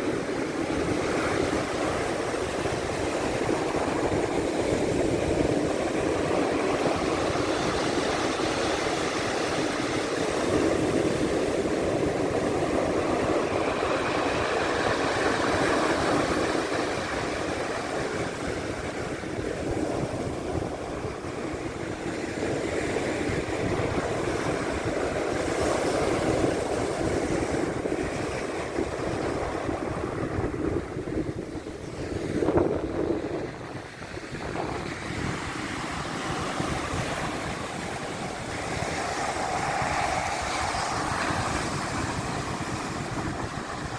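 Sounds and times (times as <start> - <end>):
sea surf washing in: 0.0 - 43.9
wind on microphone: 0.0 - 43.9.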